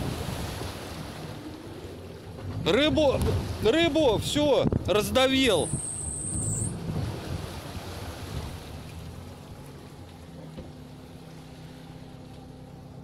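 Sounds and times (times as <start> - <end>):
water rushing and sloshing: 0.0 - 13.0.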